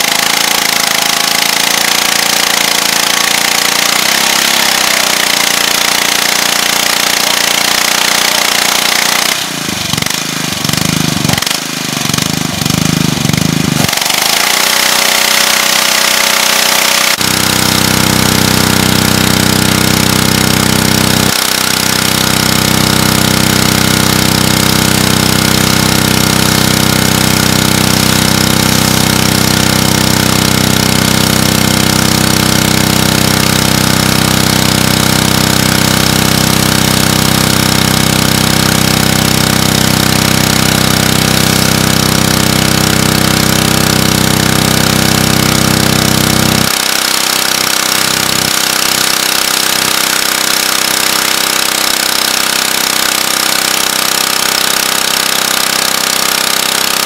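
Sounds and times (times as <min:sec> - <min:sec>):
pressure washer engine running: 0:00.0 - 0:57.0.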